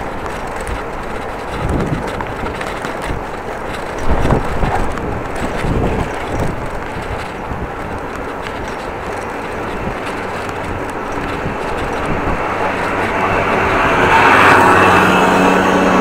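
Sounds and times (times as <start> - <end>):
motor vehicle approaching: 0.0 - 16.0.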